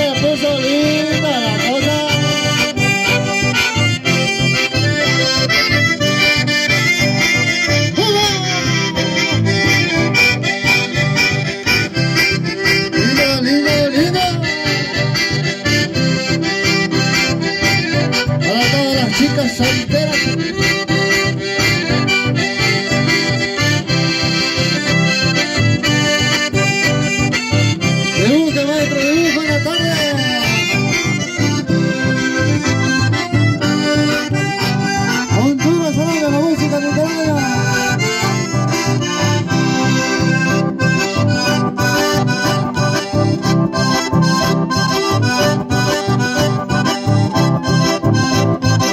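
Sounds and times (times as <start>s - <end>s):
button accordions playing lively tune: 0.0s - 48.9s.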